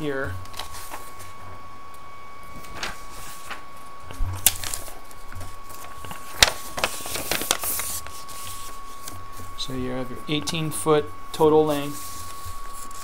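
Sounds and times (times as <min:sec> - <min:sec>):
faint high whine: 0:00.0 - 0:13.0
paper shifting on a desk: 0:00.4 - 0:01.4, 0:02.5 - 0:10.7, 0:11.4 - 0:13.0.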